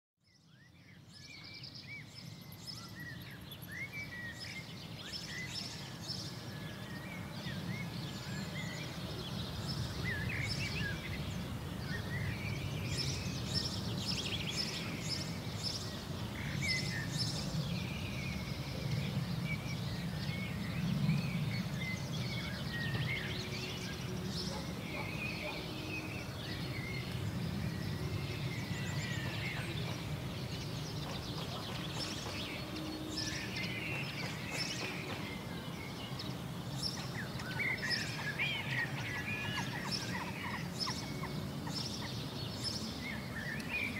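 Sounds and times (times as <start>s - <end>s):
birds chirping and calling: 2.2s - 43.9s.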